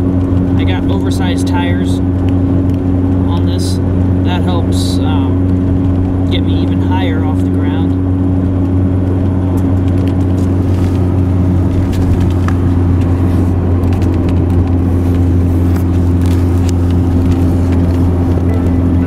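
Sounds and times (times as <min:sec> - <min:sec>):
engine hum inside vehicle: 0:00.0 - 0:19.0
road and tyre noise: 0:00.0 - 0:19.0.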